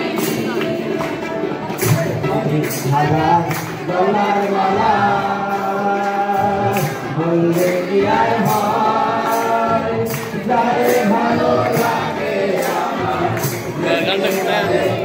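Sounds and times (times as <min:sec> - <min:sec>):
men singing together: 0:00.0 - 0:15.0.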